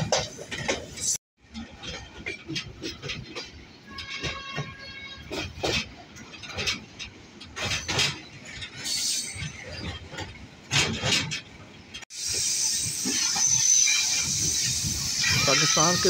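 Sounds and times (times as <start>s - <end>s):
train running noise: 0.0s - 16.0s
train wagons clanking and rattling: 0.0s - 16.0s.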